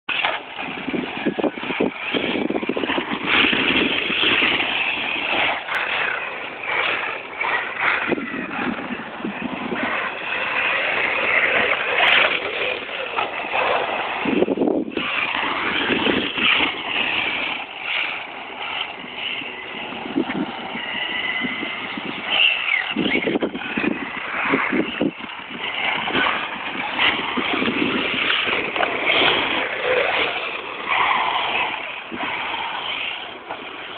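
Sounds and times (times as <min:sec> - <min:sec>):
rc car motors whining: 0:00.1 - 0:33.9.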